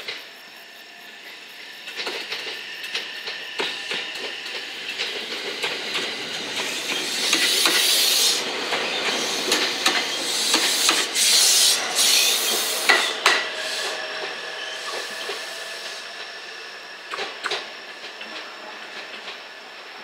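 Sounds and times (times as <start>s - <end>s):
loud hiss of passing cars: 0.0s - 18.8s
train wheels clicking over joints: 1.2s - 20.0s.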